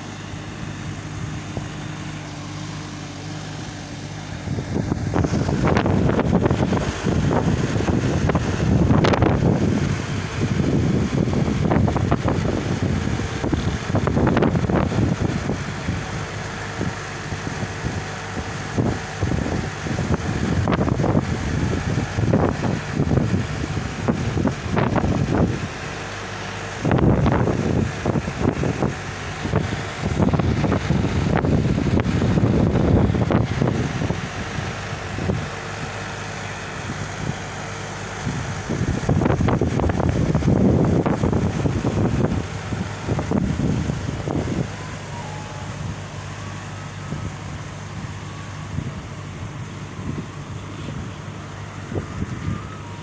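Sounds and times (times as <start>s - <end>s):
strong gusty wind on microphone: 0.0s - 53.0s.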